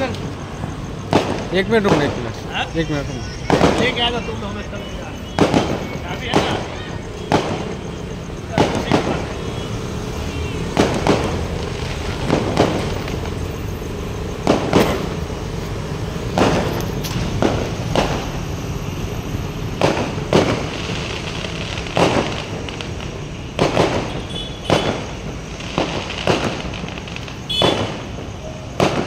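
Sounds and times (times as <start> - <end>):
fireworks bangs: 0.0 - 29.0
steady background noise: 0.0 - 29.0.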